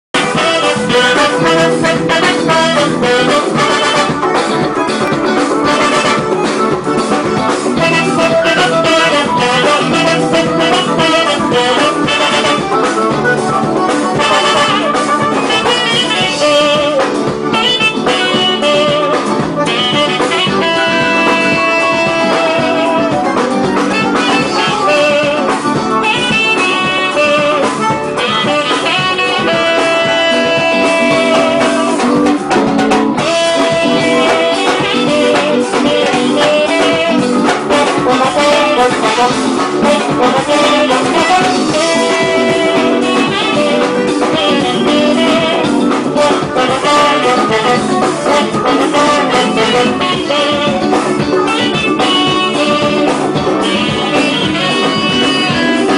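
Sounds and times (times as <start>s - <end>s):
accompaniment with steady beat: 0.1s - 55.9s
saxophone melody: 0.1s - 55.9s.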